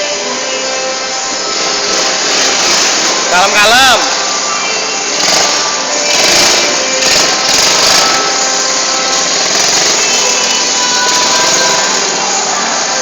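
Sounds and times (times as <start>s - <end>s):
atv engine running: 1.3s - 13.0s.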